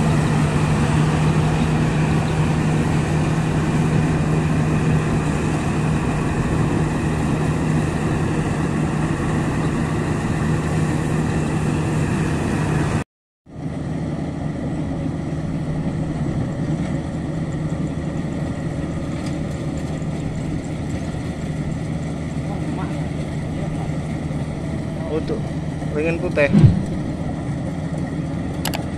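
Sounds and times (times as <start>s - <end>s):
combine harvester engine hum: 0.0s - 28.9s.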